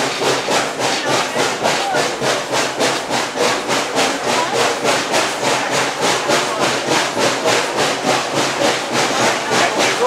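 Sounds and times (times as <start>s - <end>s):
steam locomotive exhaust chuffing: 0.0s - 10.0s.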